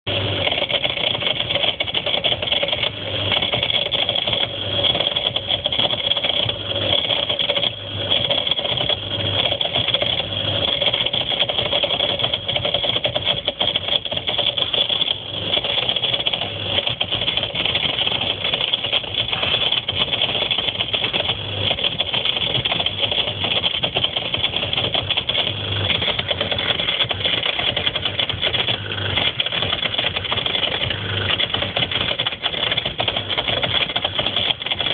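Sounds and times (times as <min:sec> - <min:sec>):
dishwasher pump rattling: 0:00.1 - 0:34.9
steady hum: 0:00.1 - 0:34.9.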